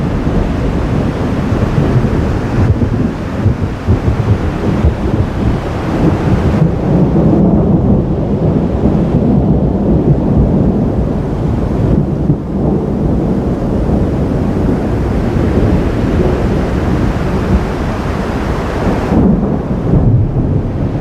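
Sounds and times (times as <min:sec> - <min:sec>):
thunder rumbling: 0:00.0 - 0:21.0.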